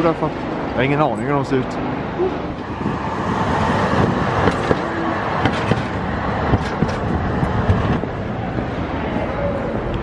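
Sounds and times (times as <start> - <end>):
street traffic: 0.0 - 10.0
tram rumbling on rails: 0.0 - 10.0.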